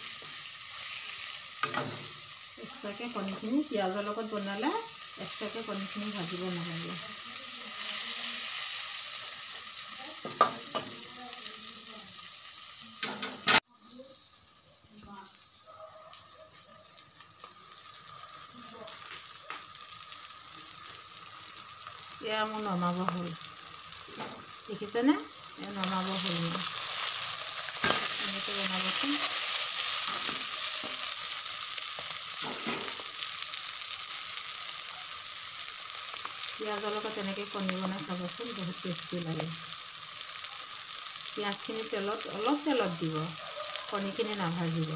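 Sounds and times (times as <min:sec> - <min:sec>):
food sizzling in oil: 0:00.0 - 0:44.9.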